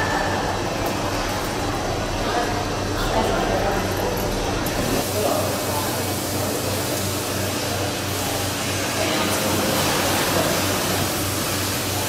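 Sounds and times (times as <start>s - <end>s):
milking machinery humming and hissing: 0.0s - 12.0s.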